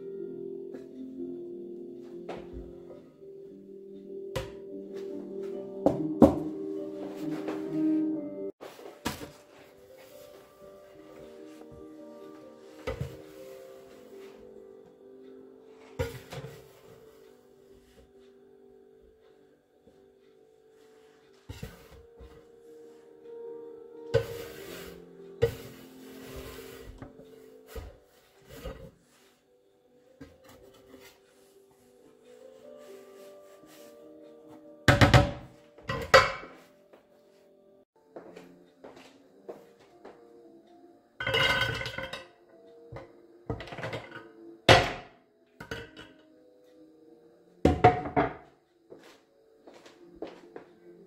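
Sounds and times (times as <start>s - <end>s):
soft background music: 0.0s - 51.0s.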